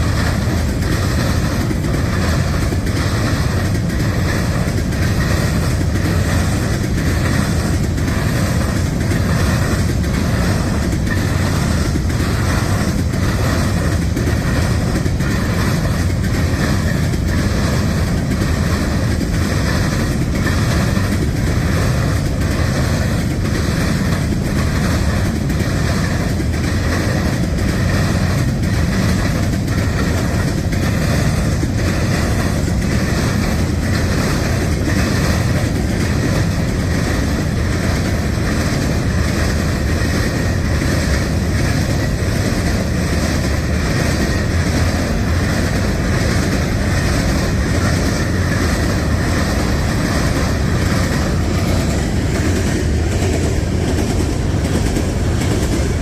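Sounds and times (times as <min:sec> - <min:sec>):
train rumbling past: 0:00.0 - 0:56.0
wheels clickety-clack over rail joints: 0:00.0 - 0:56.0.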